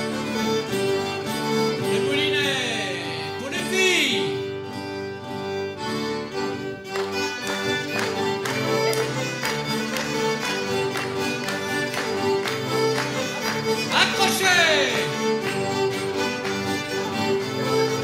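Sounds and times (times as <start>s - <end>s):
acoustic guitar: 0.0s - 18.0s
diatonic accordion: 0.0s - 18.0s
fiddle: 0.0s - 18.0s.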